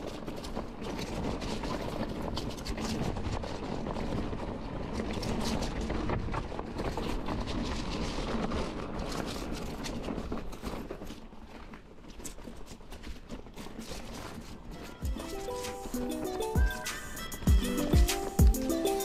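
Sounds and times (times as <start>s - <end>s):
bike clicks and rattles: 0.0s - 19.0s
bike tyres rolling on dirt trail: 0.0s - 19.0s.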